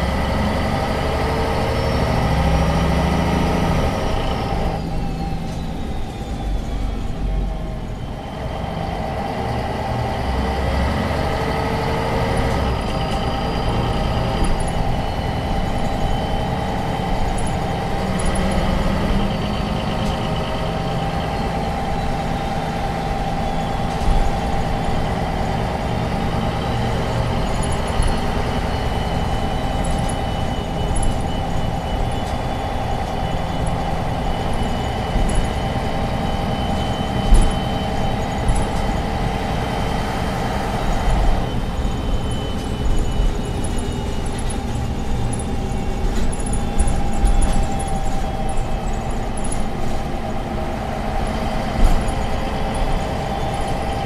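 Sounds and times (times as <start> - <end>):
bus engine drone with whine: 0.0 - 54.0.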